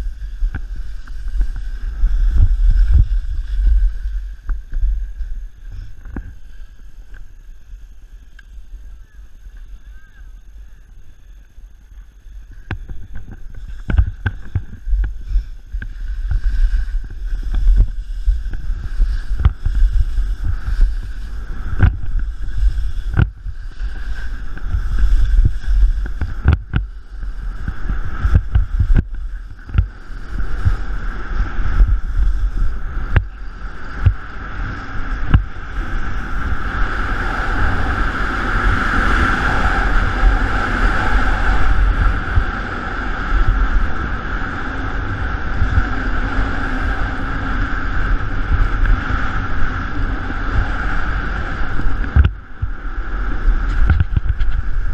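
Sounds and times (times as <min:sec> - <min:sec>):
rushing hiss: 0:00.0 - 0:52.0
skis scraping over snow: 0:00.0 - 0:54.9
wind buffeting microphone: 0:00.0 - 0:54.9.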